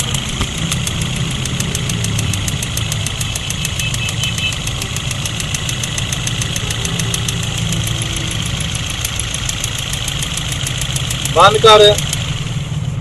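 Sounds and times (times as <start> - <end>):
car engine idling with ticking: 0.0 - 13.0.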